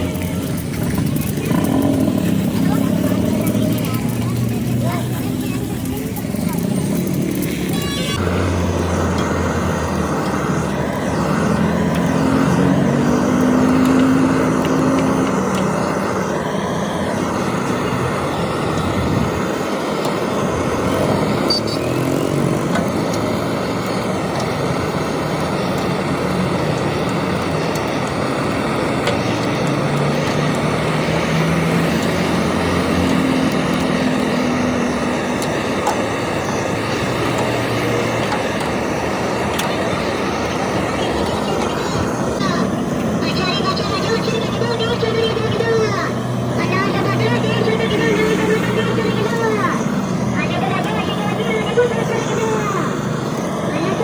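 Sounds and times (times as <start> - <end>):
deep engine hum: 0.0 - 54.0
engine noise: 0.0 - 54.0.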